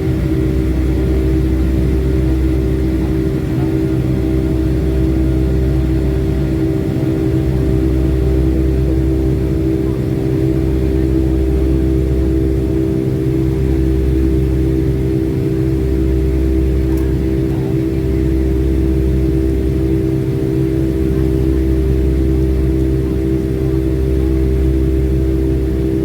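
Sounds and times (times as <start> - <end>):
jet engines from inside cabin: 0.0 - 26.0.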